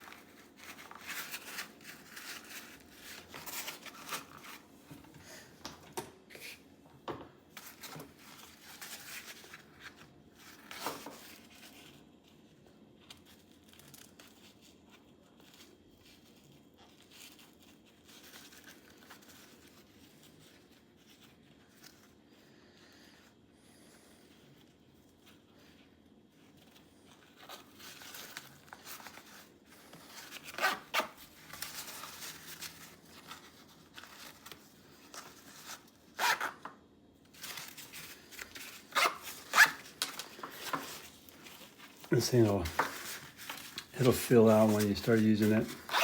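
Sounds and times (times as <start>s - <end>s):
nylon pouch rustling and crinkling: 0.0s - 5.0s, 7.6s - 23.3s, 24.2s - 46.0s.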